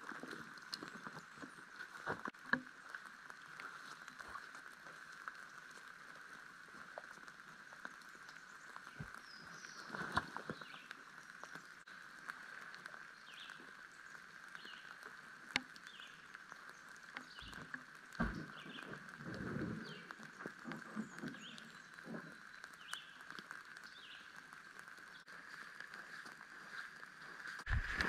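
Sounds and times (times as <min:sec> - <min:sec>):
light rain pattering: 0:00.0 - 0:28.0.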